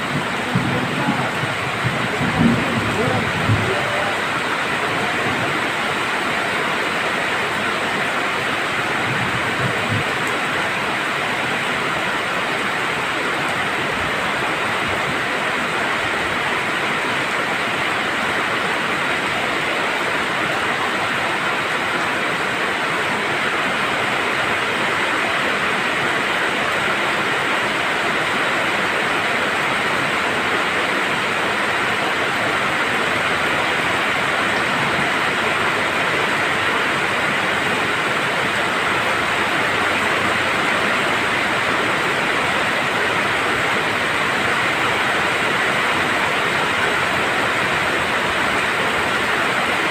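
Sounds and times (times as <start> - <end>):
steady rainfall: 0.0 - 49.9.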